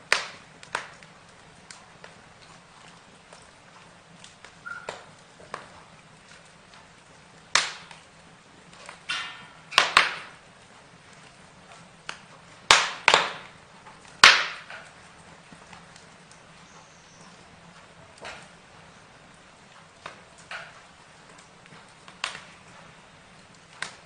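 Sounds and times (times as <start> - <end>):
burning wood crackling: 0.0 - 24.0
faint steady hiss: 0.0 - 24.0.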